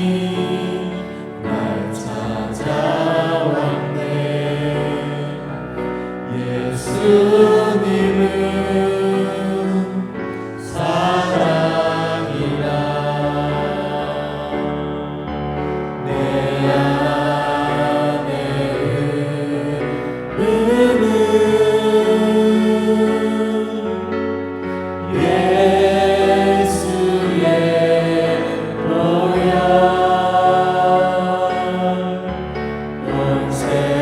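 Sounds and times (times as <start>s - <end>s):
slow gospel praise song: 0.0s - 34.0s.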